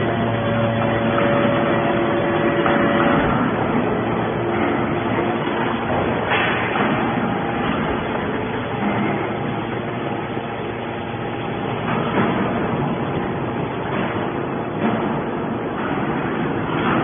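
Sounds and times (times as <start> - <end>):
hydraulic baler running: 0.0 - 17.0.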